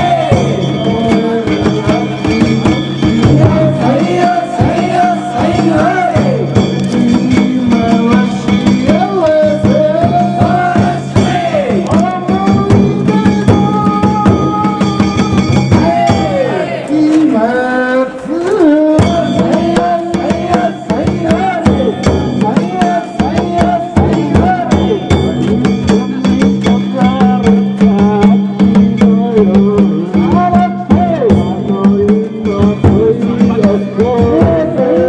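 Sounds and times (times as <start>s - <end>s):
taiko drum: 0.0s - 35.0s.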